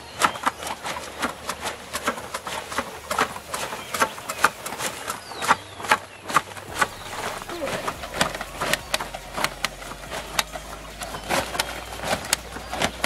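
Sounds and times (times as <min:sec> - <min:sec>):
leaves rustling: 0:00.0 - 0:13.0
shears snipping: 0:00.0 - 0:13.0.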